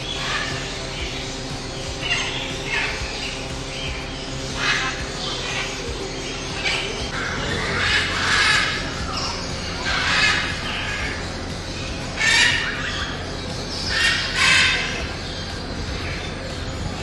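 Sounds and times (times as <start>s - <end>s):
birds squawking harshly: 0.0s - 17.0s.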